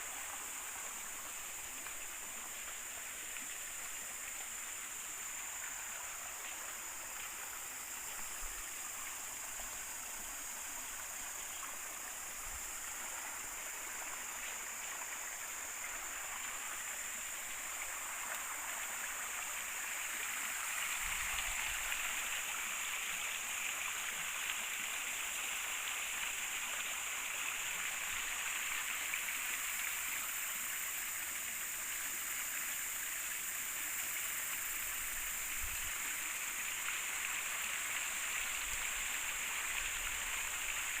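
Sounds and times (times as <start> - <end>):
river water rushing and gurgling: 0.0 - 41.0.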